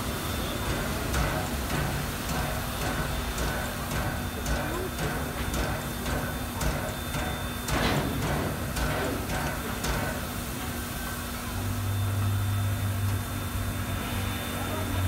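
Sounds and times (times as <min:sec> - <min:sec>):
steady locomotive hum: 0:00.0 - 0:15.0.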